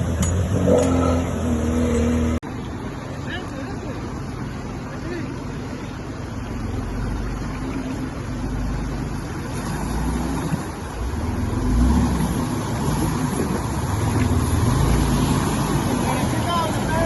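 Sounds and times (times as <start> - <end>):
car engine running while driving: 0.0 - 17.0.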